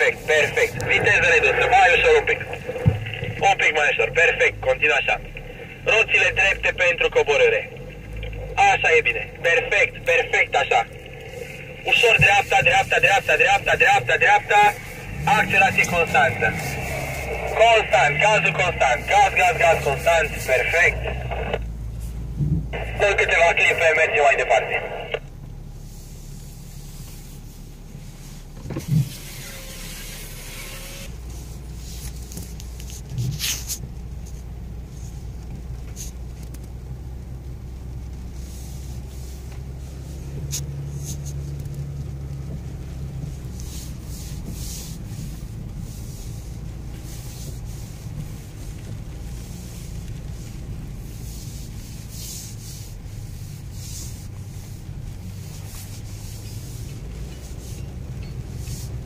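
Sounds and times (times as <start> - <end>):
engine and tyre rumble: 0.0 - 59.0.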